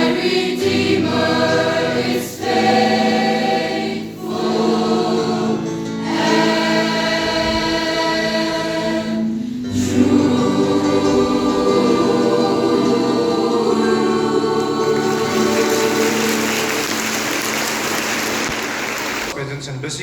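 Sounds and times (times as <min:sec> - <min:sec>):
choir singing: 0:00.0 - 0:19.3.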